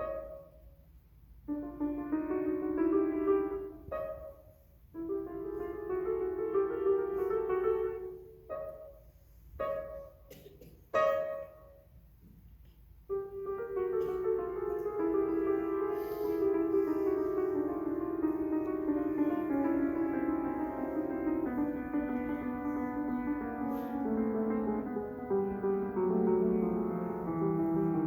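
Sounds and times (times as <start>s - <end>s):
piano playing: 0.0s - 0.8s, 1.4s - 10.3s, 10.9s - 12.0s, 13.1s - 28.0s.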